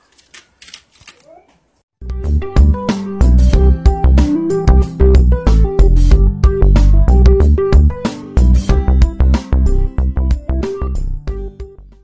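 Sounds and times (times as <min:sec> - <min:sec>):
heavy bass: 0:02.0 - 0:11.8.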